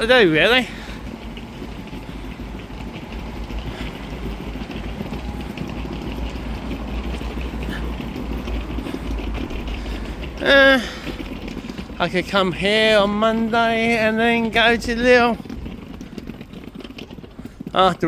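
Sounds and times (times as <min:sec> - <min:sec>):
deep rumble of traffic: 0:00.0 - 0:18.0.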